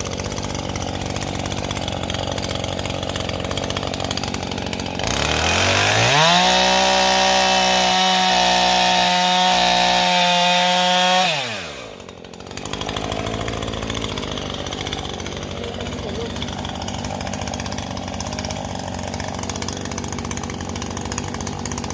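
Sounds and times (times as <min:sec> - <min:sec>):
chainsaw revving and idling: 0:00.0 - 0:21.9.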